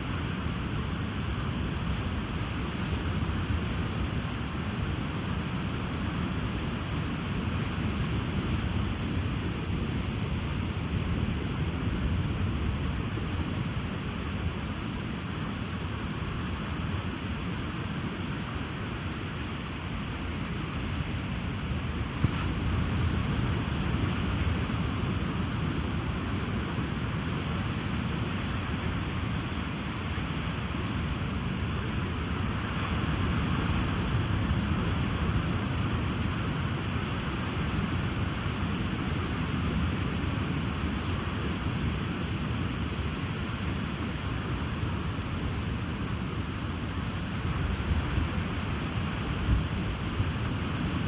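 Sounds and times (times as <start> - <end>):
ocean surf: 0.0 - 51.0
wind: 0.0 - 51.0.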